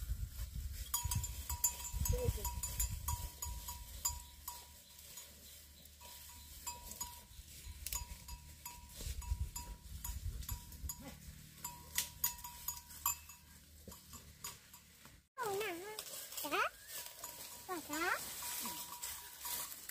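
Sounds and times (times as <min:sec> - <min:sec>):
buffalo chewing grass: 0:00.8 - 0:19.9.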